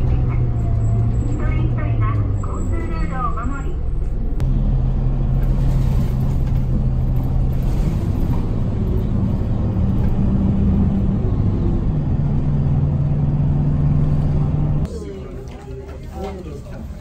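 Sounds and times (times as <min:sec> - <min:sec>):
bus engine humming: 0:00.0 - 0:17.0
road noise: 0:00.0 - 0:17.0.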